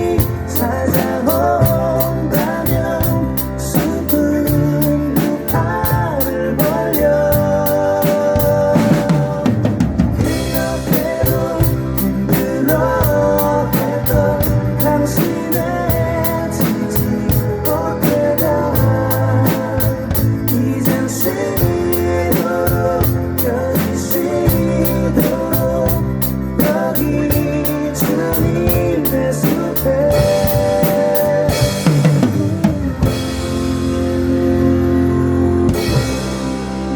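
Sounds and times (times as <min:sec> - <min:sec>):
drum kit playing: 0:00.0 - 0:34.9, 0:35.7 - 0:36.9
guitar: 0:00.0 - 0:36.9
person singing: 0:00.0 - 0:36.9
recorded worship song: 0:00.0 - 0:36.9.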